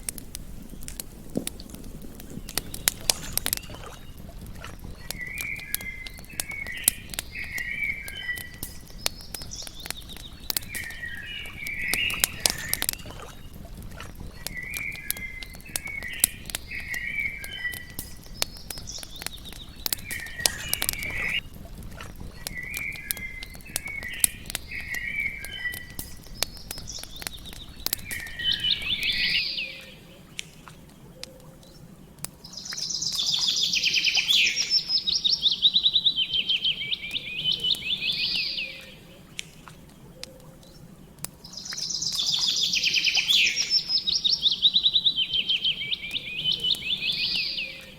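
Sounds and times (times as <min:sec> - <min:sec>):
sharp crackles: 0:00.0 - 0:47.9
songbirds warbling: 0:00.0 - 0:47.9.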